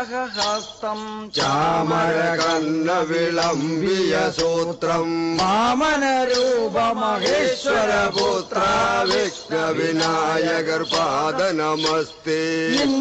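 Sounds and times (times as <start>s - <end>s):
man chanting a devotional song: 0.0s - 13.0s.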